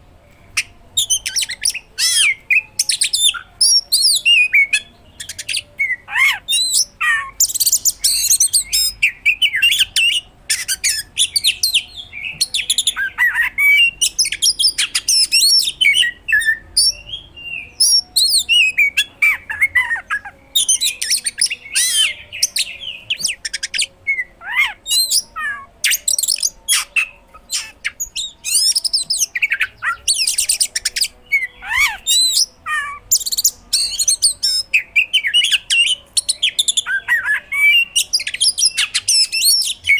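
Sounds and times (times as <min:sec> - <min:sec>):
bird singing rapid whistles: 0:00.4 - 0:39.9.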